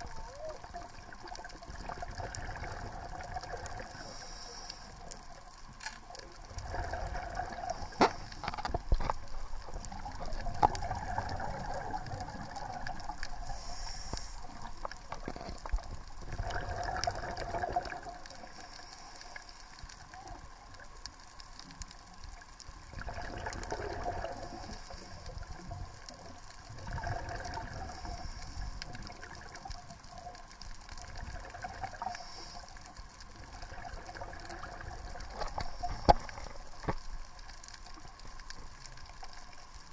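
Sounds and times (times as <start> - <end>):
exhaled bubbles gurgling: 0.0 - 39.9
faint clicks: 0.0 - 39.9.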